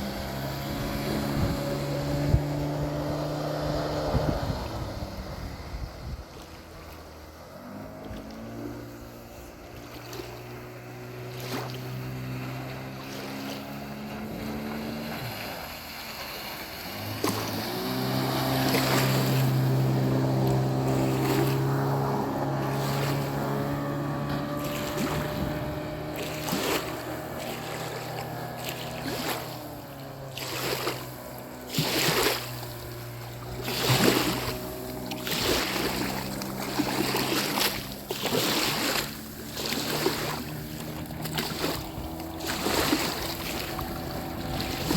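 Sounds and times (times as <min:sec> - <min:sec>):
engine running: 0:00.0 - 0:44.9.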